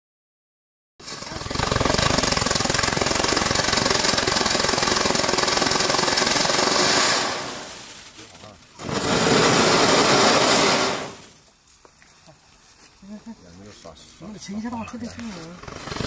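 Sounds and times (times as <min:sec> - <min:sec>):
firework fountain hissing and crackling: 0:01.0 - 0:16.0.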